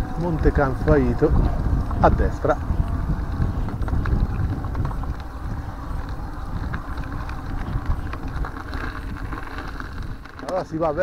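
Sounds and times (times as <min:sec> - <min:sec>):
bicycle clicks and rattles: 0:00.0 - 0:11.0
wind rumbling on microphone: 0:00.0 - 0:11.0.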